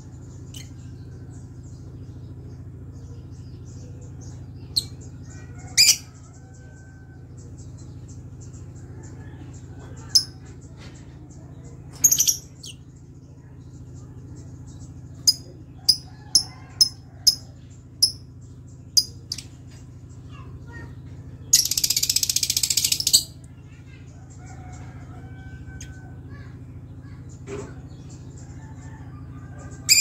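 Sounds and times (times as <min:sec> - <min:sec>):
harsh rapid bird chatter: 0:00.0 - 0:30.0
steady low hum: 0:00.0 - 0:30.0.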